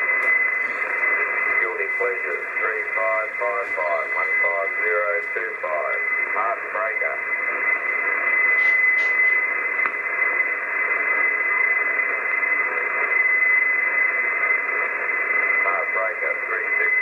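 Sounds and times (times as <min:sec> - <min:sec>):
radio static hiss: 0:00.0 - 0:17.0
short radio crackles: 0:00.0 - 0:17.0.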